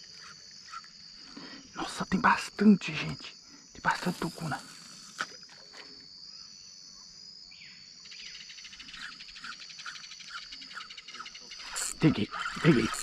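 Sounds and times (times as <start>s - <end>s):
insects shrilling: 0.0s - 6.4s, 8.1s - 13.0s
fast pulsing insect chirp: 0.0s - 13.0s.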